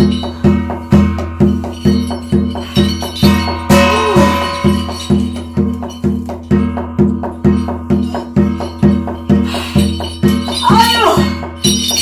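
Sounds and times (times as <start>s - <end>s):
jingling metal: 0.0s - 12.0s
steady percussion beat: 0.0s - 12.0s.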